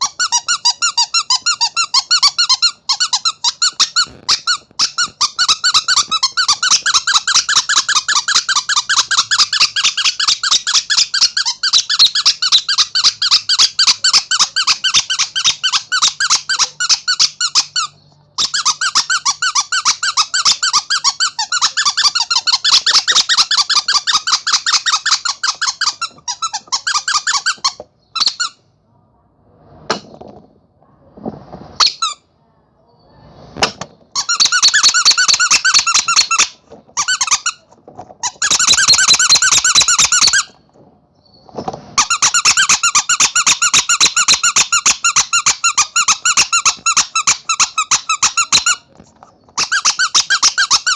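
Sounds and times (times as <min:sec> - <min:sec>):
soft airy toy squeezes: 0:00.0 - 0:28.6, 0:31.4 - 0:32.3, 0:33.2 - 0:40.6, 0:41.9 - 0:50.9
squeaky toy squeaking: 0:00.0 - 0:28.6, 0:31.8 - 0:32.3, 0:33.6 - 0:40.6, 0:42.0 - 0:50.9.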